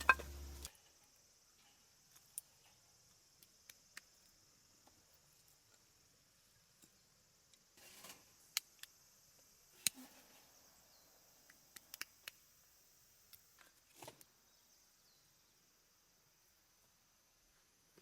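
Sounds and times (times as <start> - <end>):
faint steady high hiss: 0.0 - 18.0.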